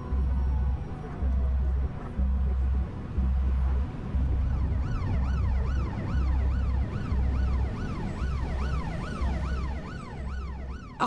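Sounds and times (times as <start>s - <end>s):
emergency siren wailing: 0.0s - 2.4s, 4.2s - 11.0s.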